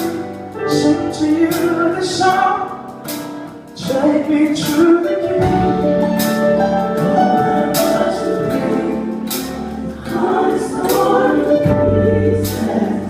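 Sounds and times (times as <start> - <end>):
gospel band playing: 0.0 - 13.0
group of singers: 0.0 - 13.0.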